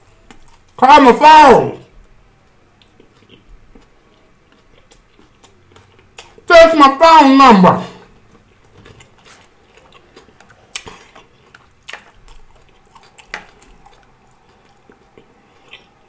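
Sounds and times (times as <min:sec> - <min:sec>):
chewing food: 0:00.0 - 0:00.8, 0:02.0 - 0:06.5, 0:08.0 - 0:16.0.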